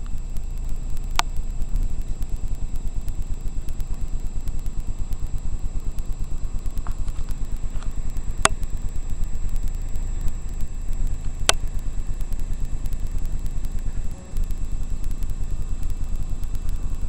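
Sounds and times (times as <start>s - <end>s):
motorcycle engine idling: 0.0s - 17.0s
sharp clicks: 0.0s - 17.0s.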